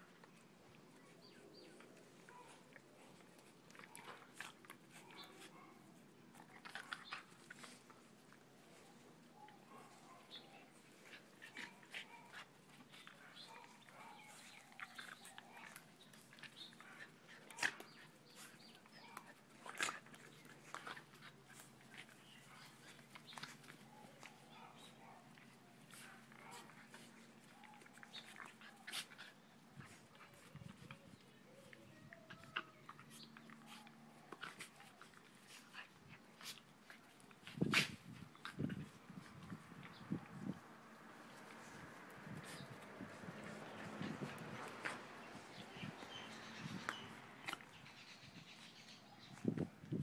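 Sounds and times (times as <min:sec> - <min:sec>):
dogs play-fighting: 0:00.0 - 0:50.0.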